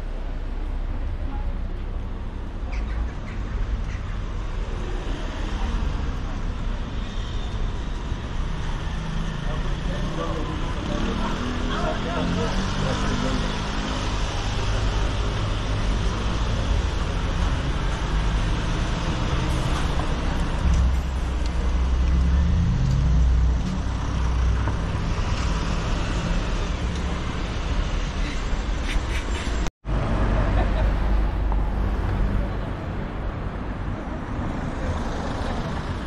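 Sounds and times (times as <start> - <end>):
cars and buses driving past: 0.0 - 36.0.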